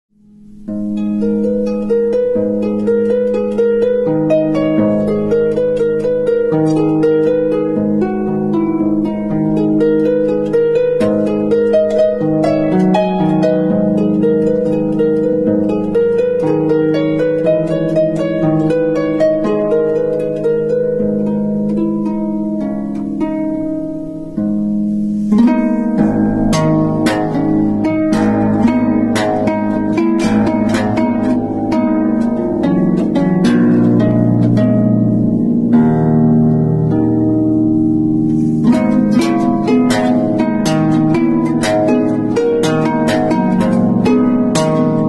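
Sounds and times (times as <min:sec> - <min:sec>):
plucked string music: 0:00.1 - 0:45.0.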